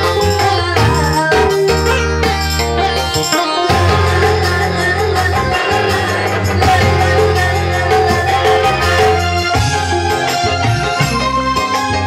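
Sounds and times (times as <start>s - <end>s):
electronic keyboard melody: 0.0s - 12.0s
steady beat: 0.0s - 12.0s
sustained bass notes: 0.0s - 12.0s.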